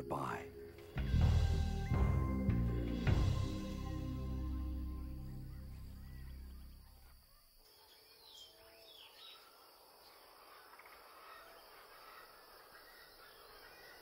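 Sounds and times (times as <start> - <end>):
faint bird chirps: 1.4 - 14.0.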